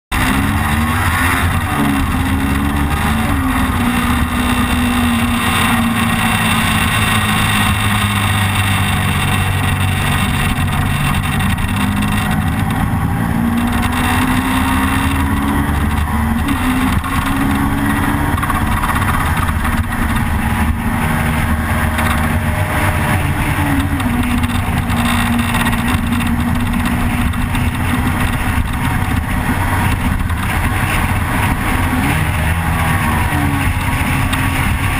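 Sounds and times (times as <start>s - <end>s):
motorcycle engine running: 0.1s - 34.9s
wind noise rushing: 0.2s - 34.9s.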